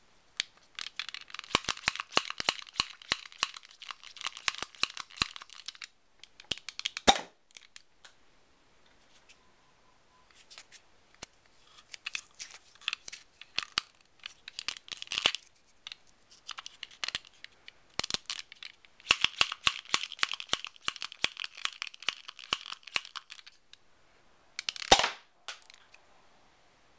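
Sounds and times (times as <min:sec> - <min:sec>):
scratchy plastic clicks and crackles: 0:00.4 - 0:08.2, 0:10.4 - 0:23.8, 0:24.6 - 0:26.0.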